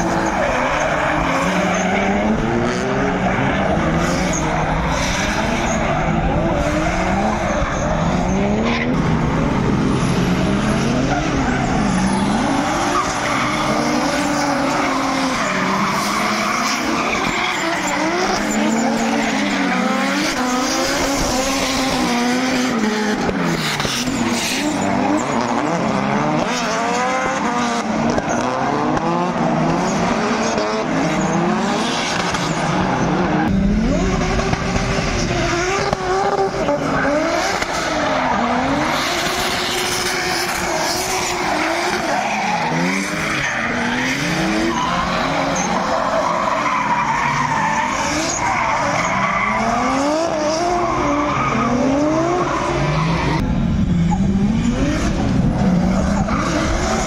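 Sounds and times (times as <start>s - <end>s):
car engines revving: 0.0s - 57.0s
tyres sliding on asphalt: 0.0s - 57.0s.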